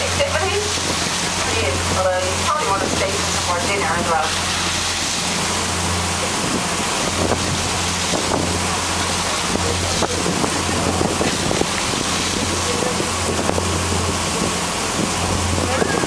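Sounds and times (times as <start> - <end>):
boat engine drone: 0.0 - 16.0
water rushing along hull: 0.0 - 16.0
wind buffeting microphone: 0.0 - 16.0.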